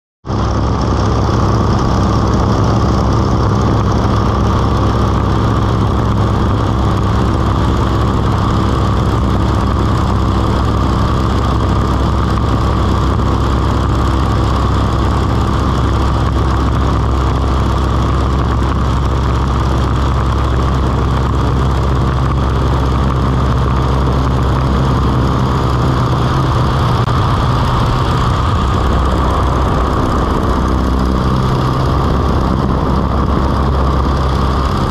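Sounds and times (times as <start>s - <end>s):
biplane radial engine running: 0.2s - 34.9s
rush of air: 0.3s - 34.9s.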